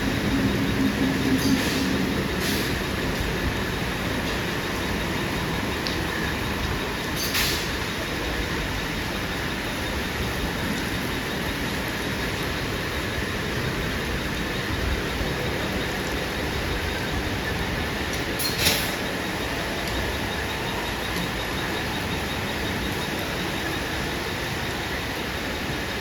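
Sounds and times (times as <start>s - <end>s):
heavy rain: 0.0s - 26.0s
train rumbling on rails: 0.0s - 26.0s.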